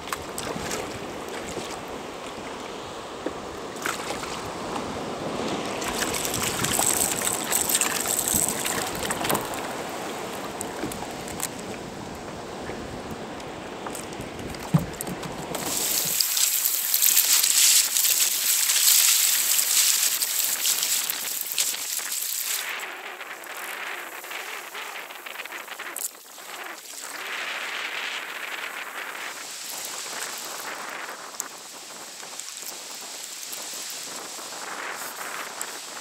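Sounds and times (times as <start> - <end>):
seawater splashing against kayak hull: 0.0 - 36.0
wind rumble on microphone: 0.0 - 36.0.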